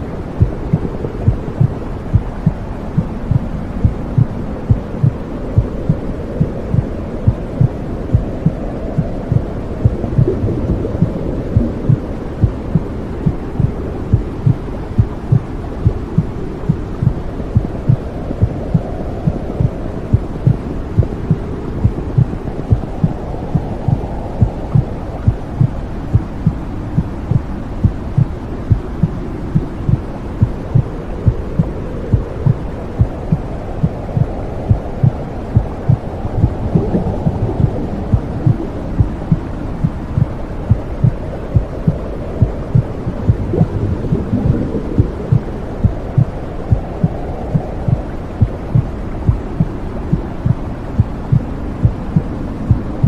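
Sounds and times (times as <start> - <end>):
low whooshing rush: 0.0 - 53.0
heartbeat thumping: 0.4 - 53.0.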